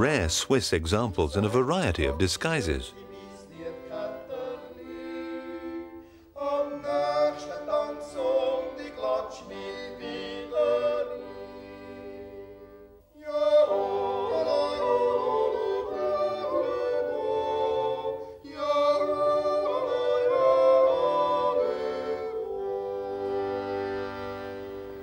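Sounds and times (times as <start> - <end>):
operatic singing: 0.0 - 12.0, 13.2 - 23.1.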